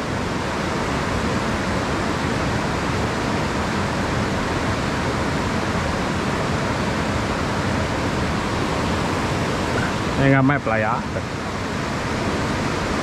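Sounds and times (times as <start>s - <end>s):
stream water over rocks: 0.0s - 13.0s.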